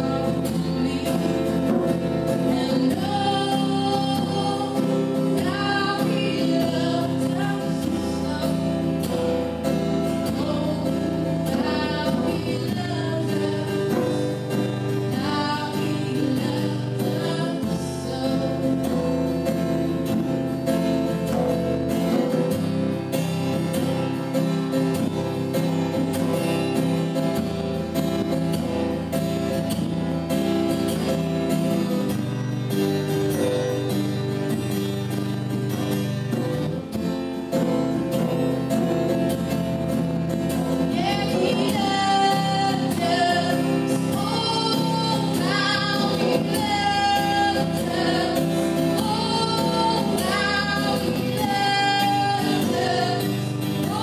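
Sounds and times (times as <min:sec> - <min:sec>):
woman singing: 0:00.0 - 0:30.1, 0:40.4 - 0:54.0
acoustic guitar chords: 0:00.0 - 0:54.0.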